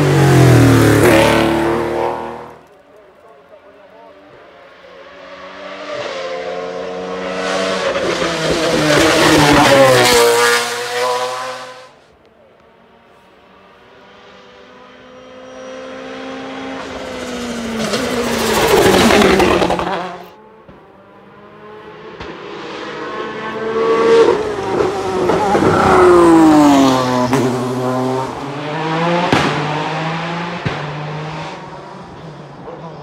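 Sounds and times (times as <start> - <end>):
car engines passing: 0.0 - 33.0.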